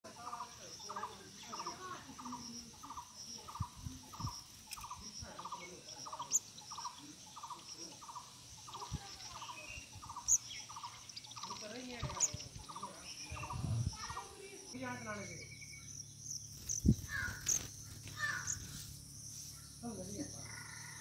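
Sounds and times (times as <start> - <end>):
high insect trill: 0.1 - 21.0
bird rattly call: 0.2 - 21.0.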